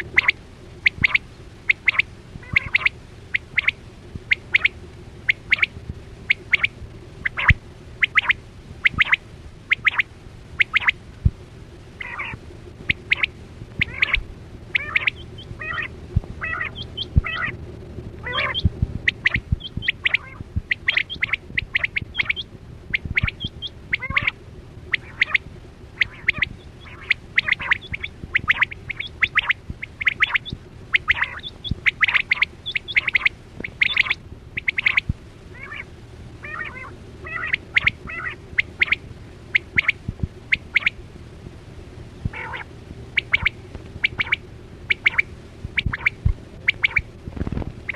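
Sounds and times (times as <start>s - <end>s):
quail calling: 0.0s - 11.0s, 12.0s - 17.6s, 18.2s - 41.0s, 42.3s - 47.2s
steady low hum: 0.0s - 47.9s.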